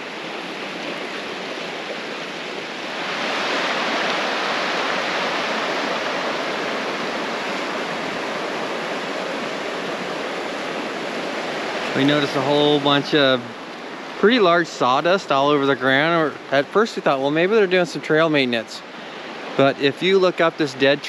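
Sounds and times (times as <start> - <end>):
creek rushing over stones: 0.0 - 21.0.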